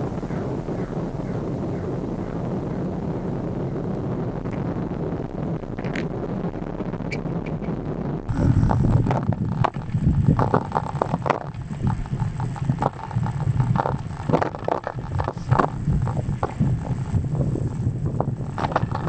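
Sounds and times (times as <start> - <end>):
gusting wind on microphone: 0.0 - 19.0.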